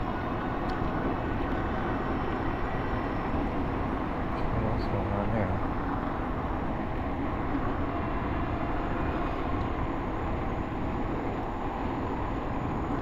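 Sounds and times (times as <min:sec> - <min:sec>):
heavy highway traffic: 0:00.0 - 0:13.0.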